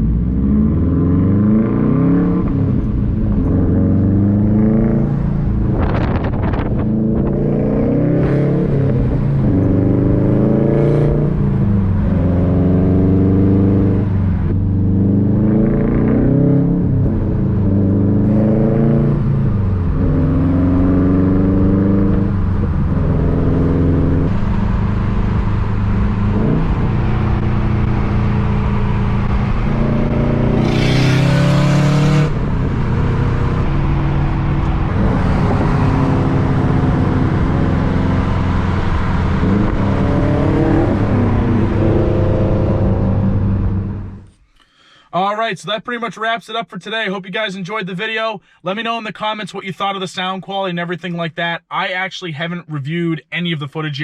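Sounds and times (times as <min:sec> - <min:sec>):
car engine accelerating: 0:00.0 - 0:44.4.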